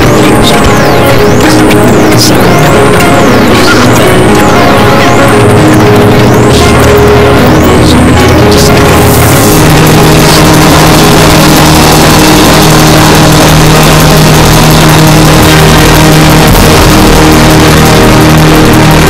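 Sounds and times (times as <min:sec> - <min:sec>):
distorted droning music: 0:00.0 - 0:19.0.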